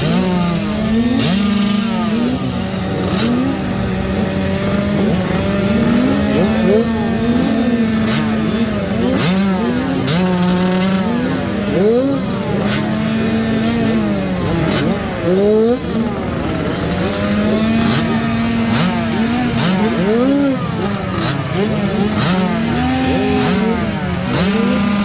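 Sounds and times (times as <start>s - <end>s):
two-stroke motocross bikes revving: 0.0s - 25.0s.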